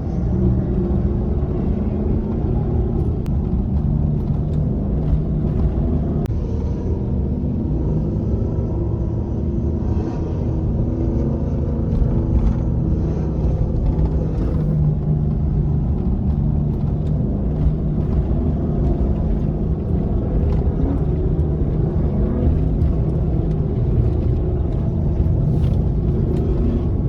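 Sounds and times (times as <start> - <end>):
truck engine running: 0.0 - 6.6, 11.9 - 27.0
low road rumble: 0.0 - 27.0.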